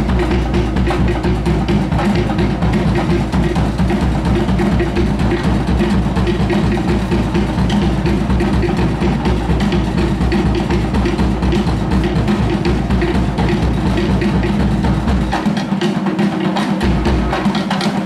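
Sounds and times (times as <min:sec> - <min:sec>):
fast drumming: 0:00.0 - 0:18.0.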